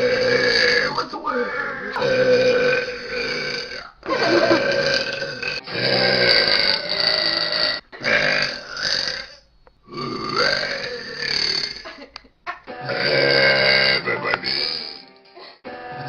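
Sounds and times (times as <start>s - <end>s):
person burping: 0.0s - 1.0s, 1.8s - 12.1s, 12.8s - 15.1s.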